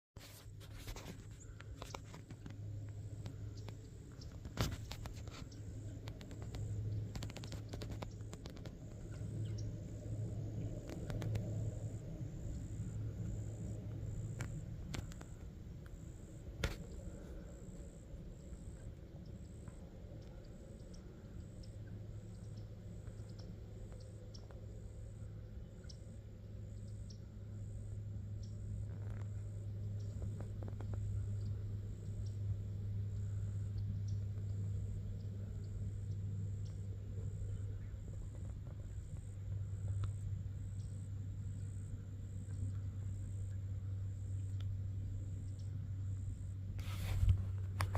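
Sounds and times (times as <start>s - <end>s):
crickets chirping: 0.2s - 47.9s
low hum: 0.2s - 47.9s.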